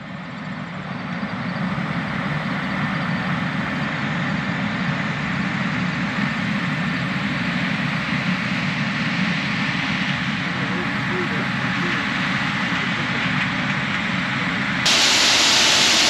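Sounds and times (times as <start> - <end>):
heavy engine running: 0.0 - 16.0.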